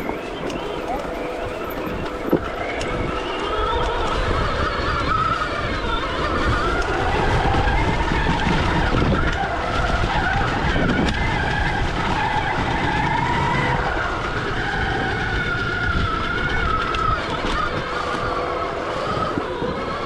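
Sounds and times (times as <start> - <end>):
electric motor whine: 0.0 - 20.0
tyres rumbling on trail: 0.0 - 20.0.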